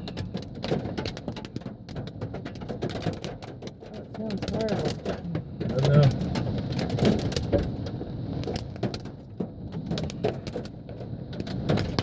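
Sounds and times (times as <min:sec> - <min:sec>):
hail clattering on car roof: 0:00.0 - 0:12.0.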